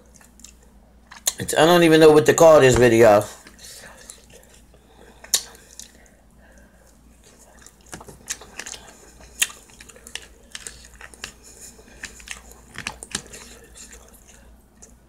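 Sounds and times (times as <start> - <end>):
chewing and mouth smacking: 0.0 - 1.4, 3.4 - 15.0.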